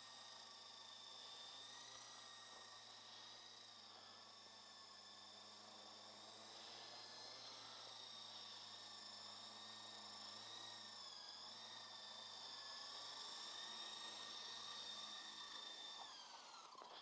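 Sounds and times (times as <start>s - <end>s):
toy helicopter rotor whine: 0.0s - 17.0s.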